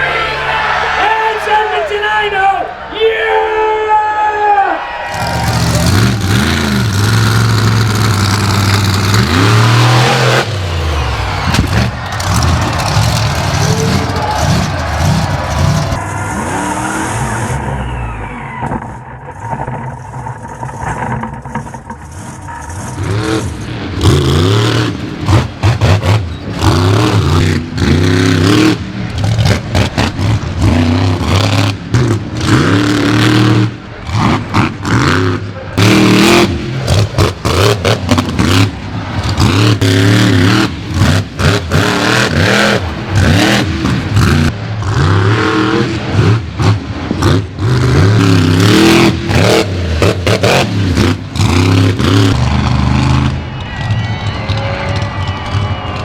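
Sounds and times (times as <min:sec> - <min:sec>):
monster truck engines revving: 0:00.0 - 0:02.0, 0:04.7 - 0:56.0.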